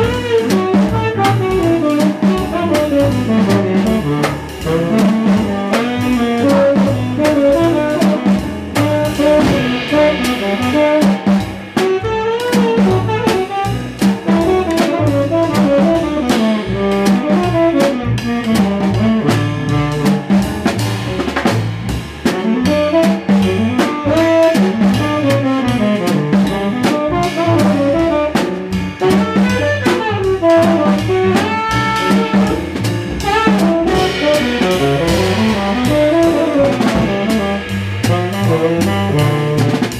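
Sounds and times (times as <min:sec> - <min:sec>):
horn playing lead line: 0:00.0 - 0:20.4, 0:22.4 - 0:28.4, 0:29.0 - 0:39.9
drum kit with snare and cymbals: 0:00.0 - 0:39.9
piano: 0:00.0 - 0:39.9
plucked double bass: 0:00.0 - 0:39.9.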